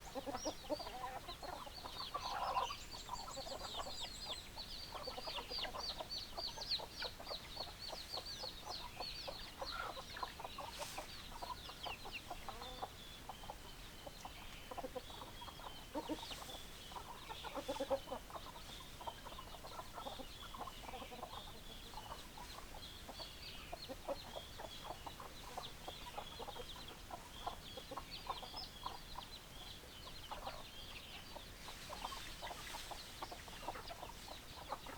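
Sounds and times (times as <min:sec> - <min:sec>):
hens clucking: 0:00.0 - 0:34.9.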